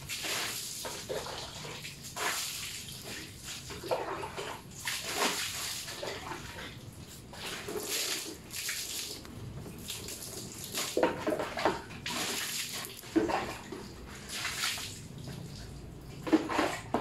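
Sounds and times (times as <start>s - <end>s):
water splashing on scooter: 0.0s - 17.0s.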